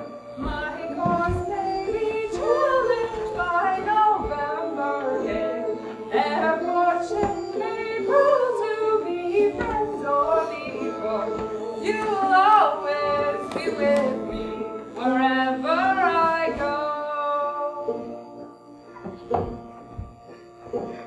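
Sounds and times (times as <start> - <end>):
young voices singing together: 0.4 - 17.9.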